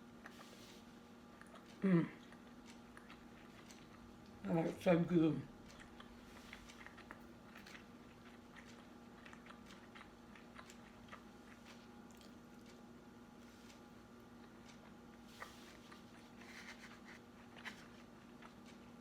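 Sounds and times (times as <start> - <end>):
person chewing food: 0.0 - 4.9, 5.5 - 19.0.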